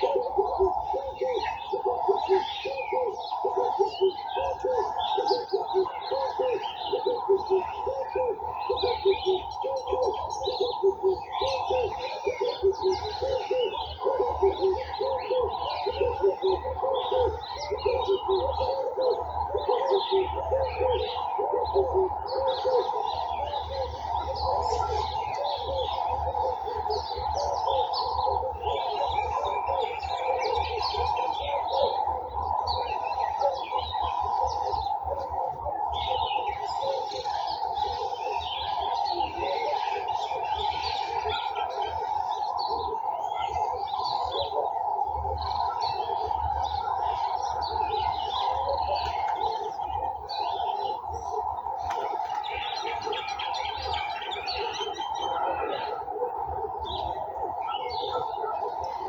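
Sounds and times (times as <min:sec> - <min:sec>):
birds chirping in chorus: 0:00.0 - 0:59.0
low repeated bird notes: 0:00.0 - 0:59.0.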